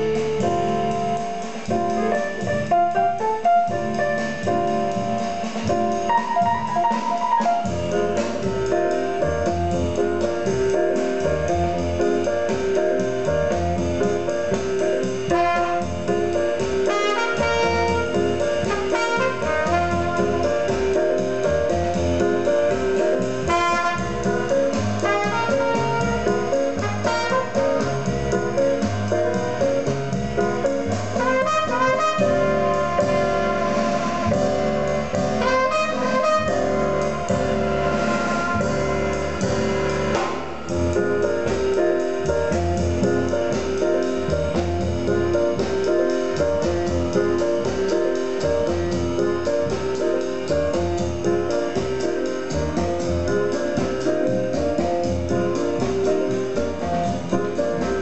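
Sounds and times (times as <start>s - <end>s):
jazz with brass over loudspeakers: 0.0s - 58.0s.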